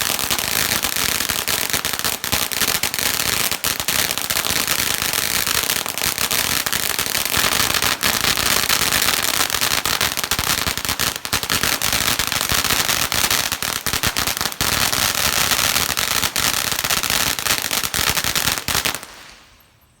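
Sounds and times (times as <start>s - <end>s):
firework fountain hissing and crackling: 0.0s - 19.8s.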